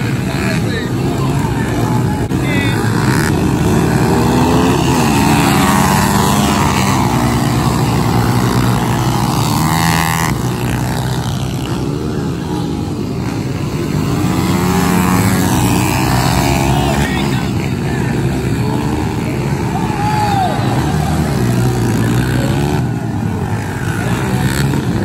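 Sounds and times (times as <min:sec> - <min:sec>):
bike passing close: 0:00.0 - 0:25.0
pit bike engines revving: 0:00.0 - 0:25.0.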